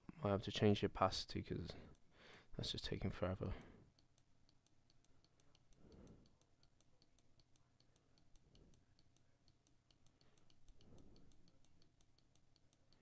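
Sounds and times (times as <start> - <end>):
quick even ticking: 1.7 - 13.0.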